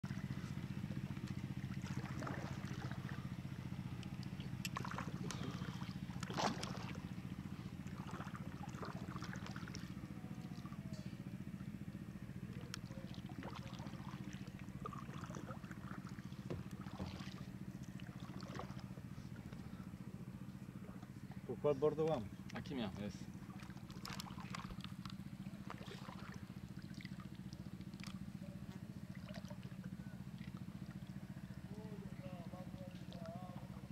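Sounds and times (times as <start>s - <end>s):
outboard motor running: 0.0s - 33.9s.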